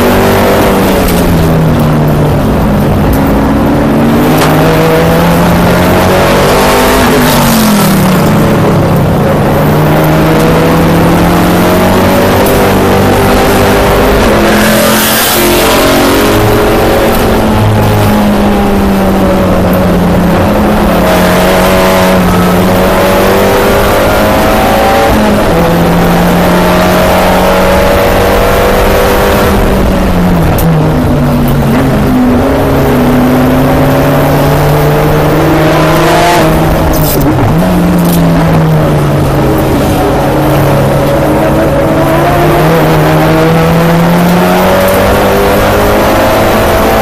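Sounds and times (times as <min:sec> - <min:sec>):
race car engine droning: 0:00.0 - 0:47.0.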